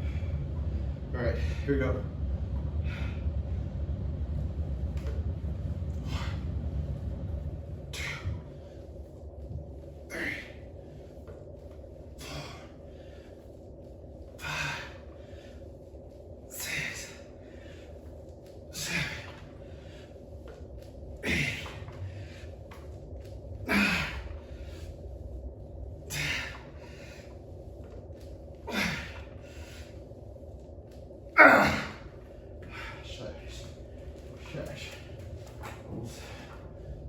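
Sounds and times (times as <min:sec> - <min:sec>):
low hum: 0:00.0 - 0:37.0
man breathing heavily: 0:00.0 - 0:37.0.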